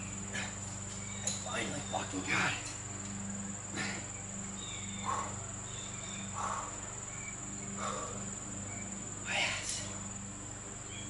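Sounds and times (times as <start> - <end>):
insects droning: 0.0 - 11.0
low hum: 0.0 - 11.0.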